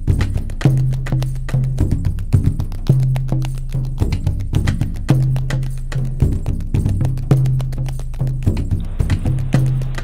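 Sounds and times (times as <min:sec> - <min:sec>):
rhythmic percussion beat: 0:00.0 - 0:10.0.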